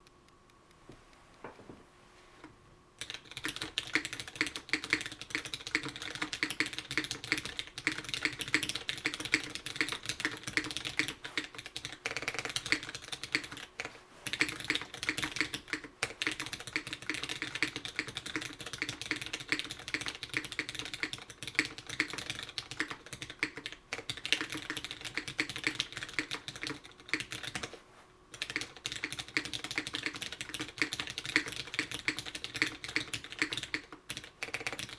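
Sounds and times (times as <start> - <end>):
mechanical keyboard typing: 3.0 - 34.9.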